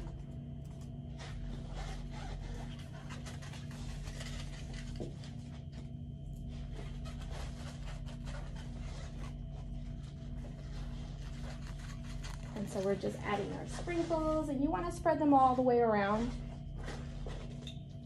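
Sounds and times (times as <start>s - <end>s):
steady low hum: 0.0s - 18.0s
balloons rustling and squeaking: 1.1s - 5.0s, 6.5s - 17.7s.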